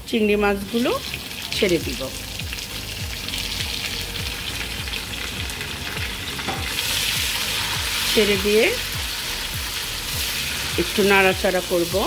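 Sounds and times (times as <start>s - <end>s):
prawns sizzling in hot oil: 0.1s - 12.0s.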